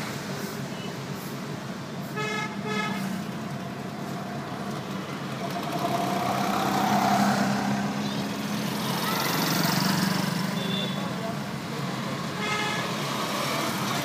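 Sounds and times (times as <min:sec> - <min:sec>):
passing traffic: 0:00.0 - 0:14.0.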